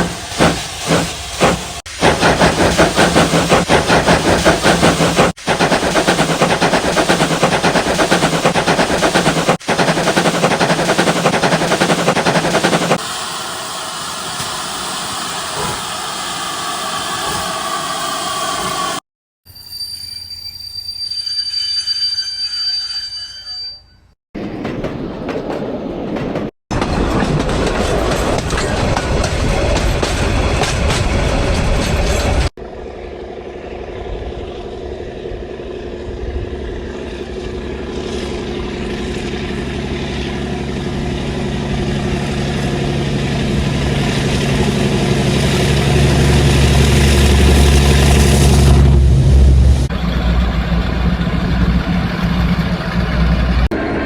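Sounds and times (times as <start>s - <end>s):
train running: 0.0s - 19.0s, 20.1s - 54.0s.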